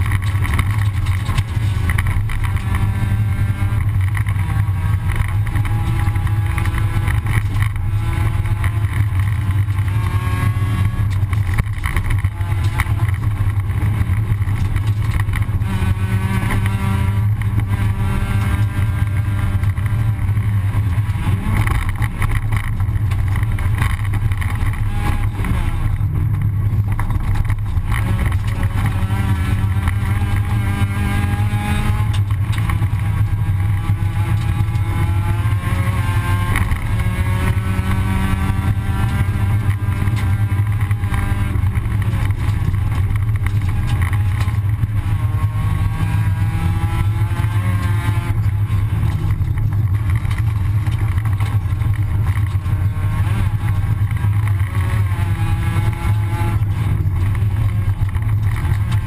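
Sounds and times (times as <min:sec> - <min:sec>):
low rumble: 0:00.0 - 0:59.0
rally car engine accelerating: 0:00.0 - 0:59.0.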